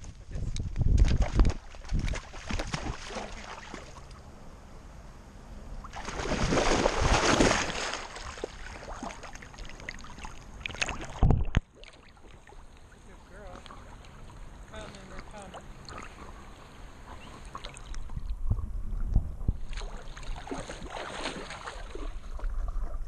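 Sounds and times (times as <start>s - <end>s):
water splashing and sloshing: 0.5s - 4.3s, 5.8s - 23.0s.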